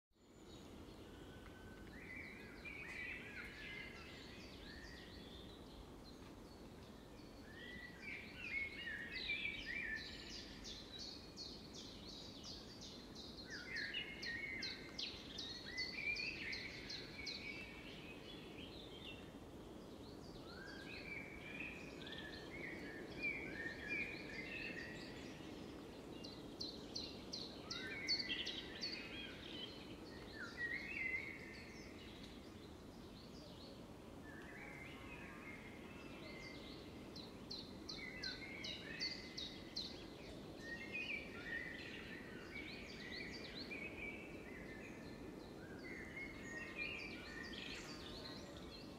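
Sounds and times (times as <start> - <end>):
faint background hiss: 0.2 - 48.9.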